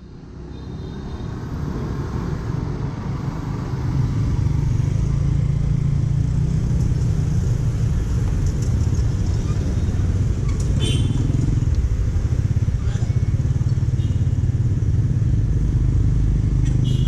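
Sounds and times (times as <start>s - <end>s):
motorbike engines in traffic: 0.0s - 17.0s.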